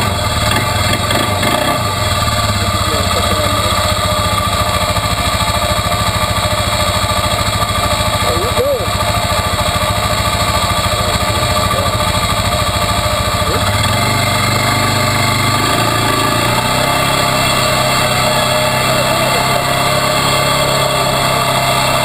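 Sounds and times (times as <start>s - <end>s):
quad engine running: 0.0s - 22.0s.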